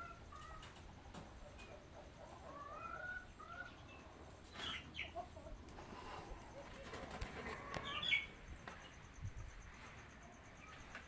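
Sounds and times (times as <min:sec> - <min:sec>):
chickens calling: 0:00.0 - 0:11.0.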